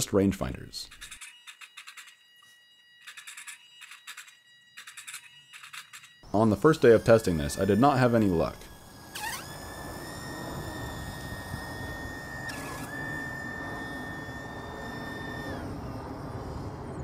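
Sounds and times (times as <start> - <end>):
electric motor and propeller whining: 0.0 - 17.0.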